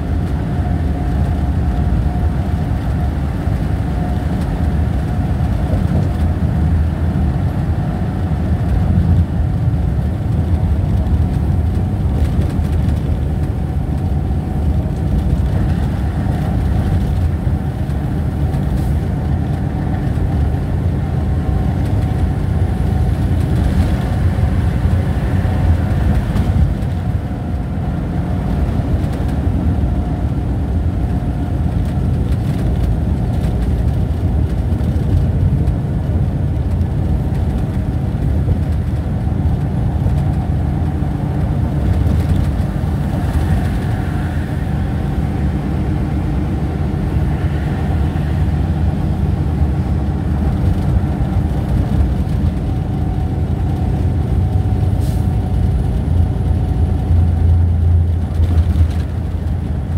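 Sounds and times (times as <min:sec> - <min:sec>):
engine and road noise drone: 0:00.0 - 0:59.9.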